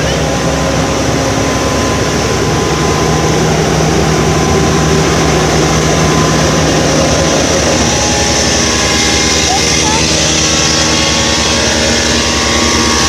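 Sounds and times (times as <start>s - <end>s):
machine droning: 0.0s - 13.0s.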